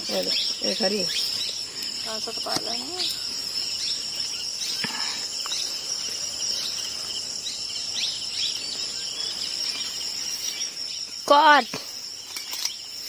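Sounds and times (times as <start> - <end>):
bird chirps: 0.0 - 11.2
insects droning: 0.0 - 13.0.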